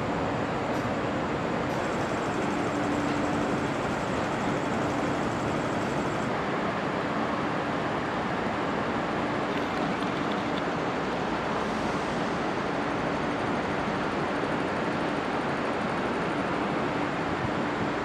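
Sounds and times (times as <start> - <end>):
faint constant hum: 0.0 - 18.0.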